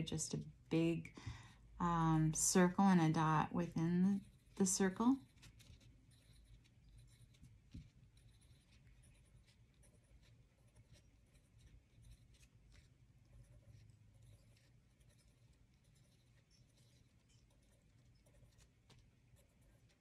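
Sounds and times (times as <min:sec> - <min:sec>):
marker scratching on paper: 0:02.6 - 0:20.0.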